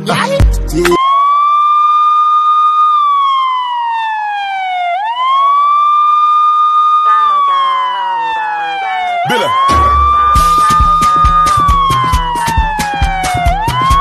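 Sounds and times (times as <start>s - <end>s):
siren wailing: 1.0s - 14.0s.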